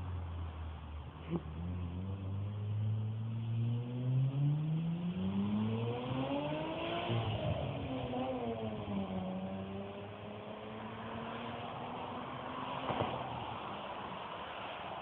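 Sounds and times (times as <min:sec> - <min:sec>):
car engine revving: 0:01.2 - 0:13.2.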